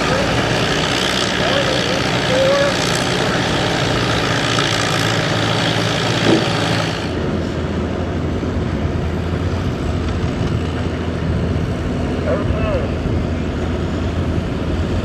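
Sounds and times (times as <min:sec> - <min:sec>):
low steady tractor rumble: 0:00.0 - 0:15.0
tractor engine idling: 0:00.0 - 0:15.0.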